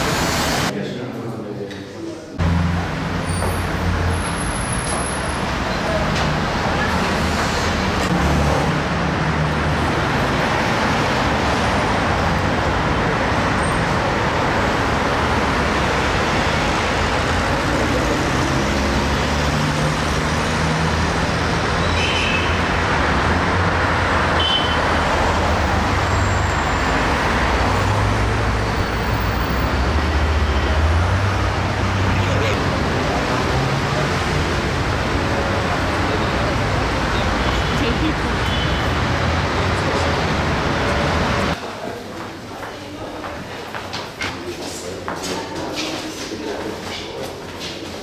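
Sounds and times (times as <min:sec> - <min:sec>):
road traffic: 0:00.0 - 0:48.0.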